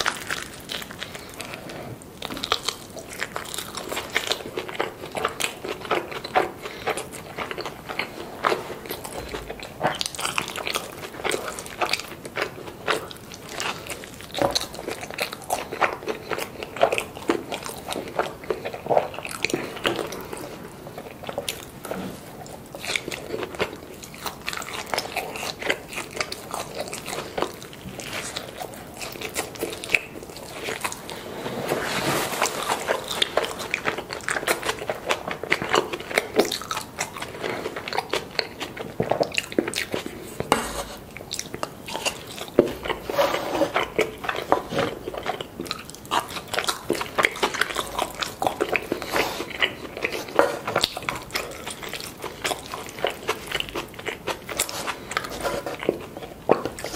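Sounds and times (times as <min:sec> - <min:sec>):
chewing and crunching: 0:00.0 - 0:56.9.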